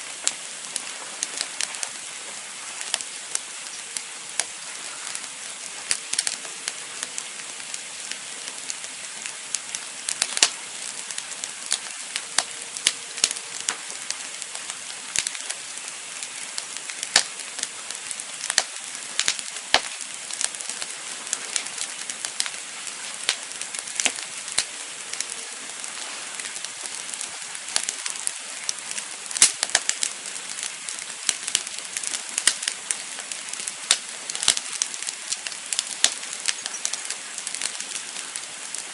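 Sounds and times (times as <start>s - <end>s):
fire hissing: 0.0s - 38.9s
wood crackling and popping: 0.0s - 38.9s.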